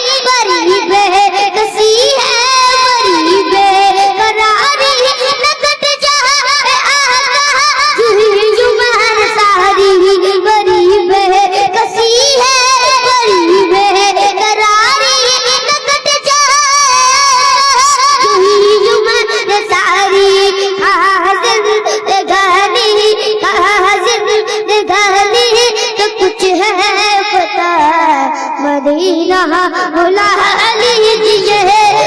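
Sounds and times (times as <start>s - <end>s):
child singing: 0.0s - 32.0s.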